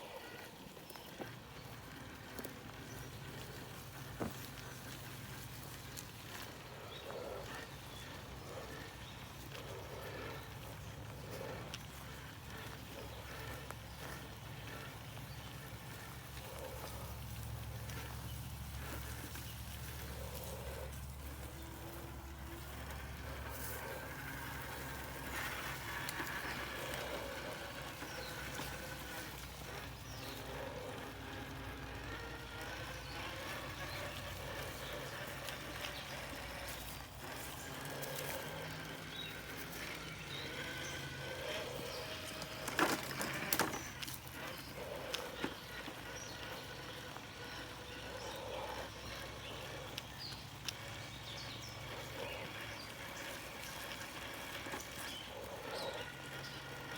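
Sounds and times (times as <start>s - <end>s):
electric motor and gearbox whining: 0.0s - 56.9s.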